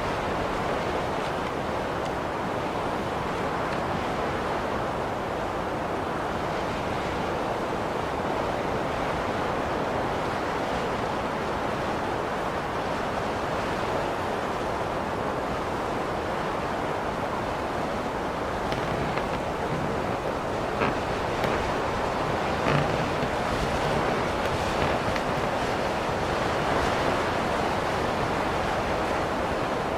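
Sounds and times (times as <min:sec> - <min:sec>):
blizzard wind blowing: 0:00.0 - 0:29.9.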